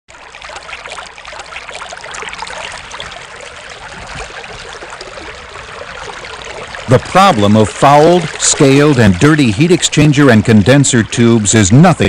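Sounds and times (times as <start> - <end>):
water trickling: 0.1 - 12.0.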